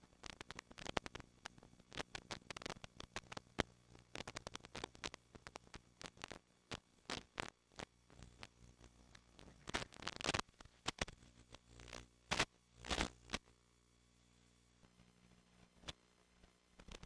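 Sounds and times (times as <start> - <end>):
faint crackling clicks: 0.0 - 13.6, 14.8 - 17.0.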